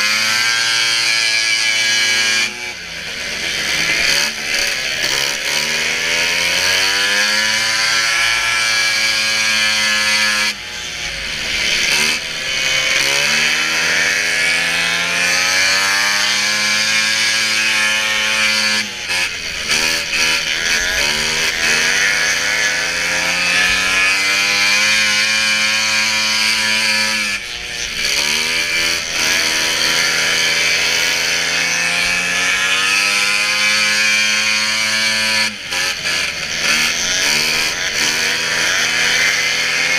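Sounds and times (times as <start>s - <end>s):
snowmobile engine at high revs: 0.0s - 39.9s.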